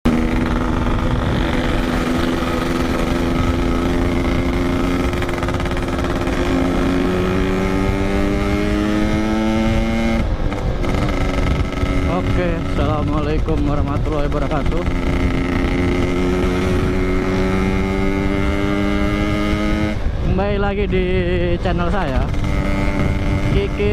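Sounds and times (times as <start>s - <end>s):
two-stroke motorcycle engine: 0.0s - 23.9s.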